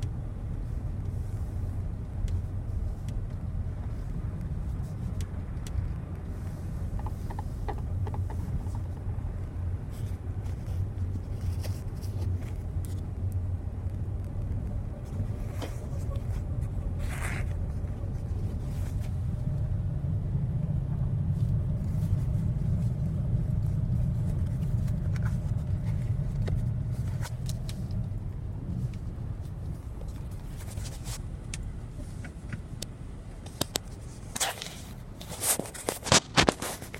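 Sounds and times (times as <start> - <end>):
car driving low rumble: 0.0 - 36.9.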